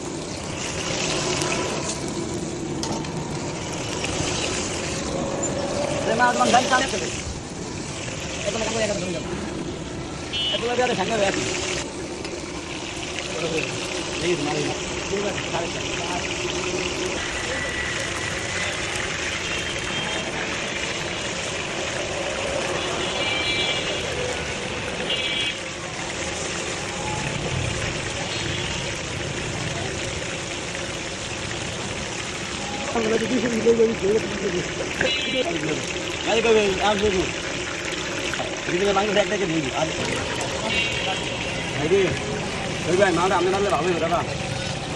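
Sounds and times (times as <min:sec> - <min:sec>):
chicken frying in hot oil: 0:00.0 - 0:44.9.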